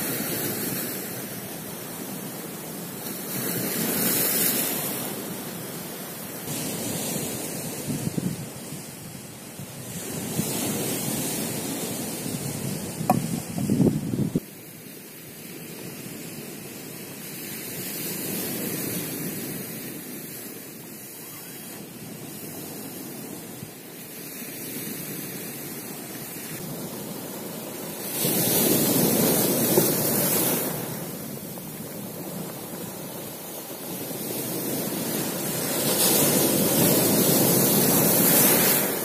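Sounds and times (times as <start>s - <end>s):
surf breaking on pebble shore: 0.0s - 39.0s.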